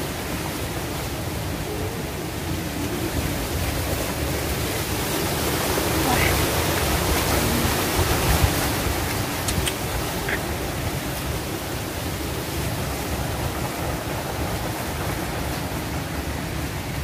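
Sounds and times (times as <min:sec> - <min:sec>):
rushing background hiss: 0:00.0 - 0:17.0.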